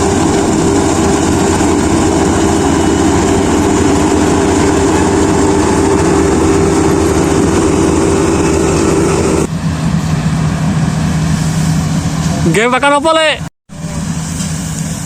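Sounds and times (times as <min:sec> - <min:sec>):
machine whine: 0:00.0 - 0:12.4
combine harvester engine running: 0:00.0 - 0:12.6.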